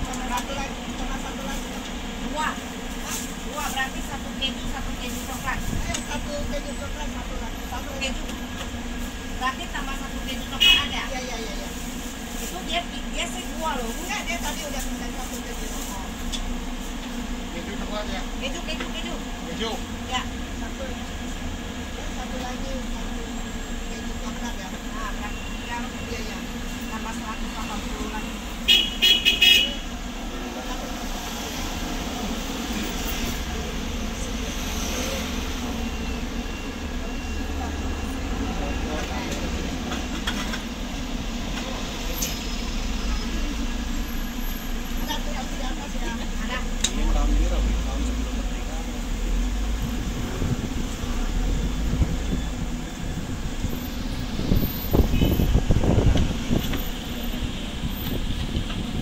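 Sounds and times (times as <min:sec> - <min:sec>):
low rumble of street traffic: 0:00.0 - 0:59.0.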